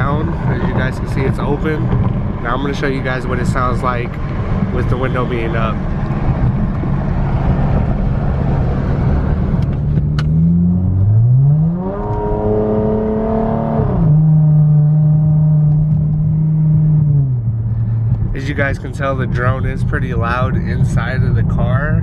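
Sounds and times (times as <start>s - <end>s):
loud car exhaust drone: 0.0s - 22.0s.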